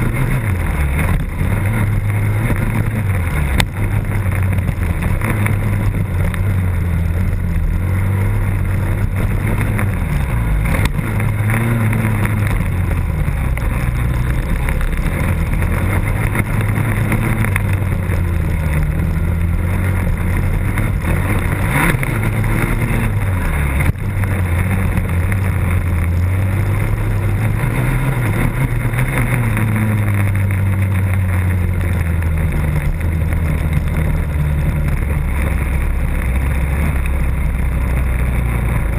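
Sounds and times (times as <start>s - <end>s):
motocross bike engine racing: 0.0s - 38.9s.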